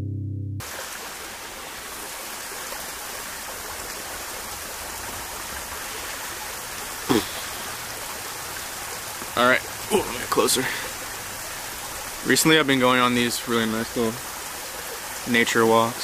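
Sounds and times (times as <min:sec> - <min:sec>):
flowing water rushing: 0:00.6 - 0:16.0.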